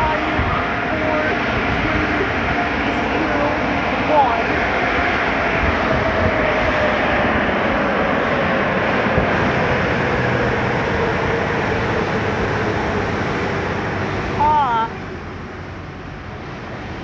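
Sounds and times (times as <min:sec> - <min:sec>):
mechanical roar with sinking tone: 0:00.0 - 0:17.0.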